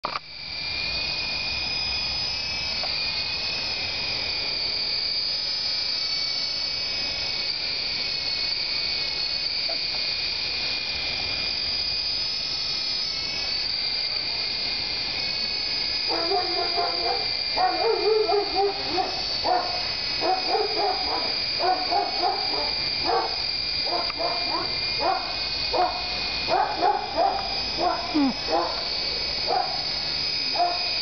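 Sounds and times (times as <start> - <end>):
toy helicopter rotor whine: 0.0 - 31.0.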